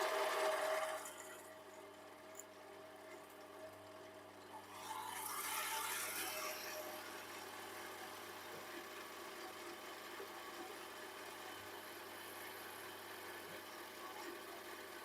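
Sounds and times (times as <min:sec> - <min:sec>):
lathe spindle motor whir: 0:00.0 - 0:02.4, 0:04.5 - 0:15.0.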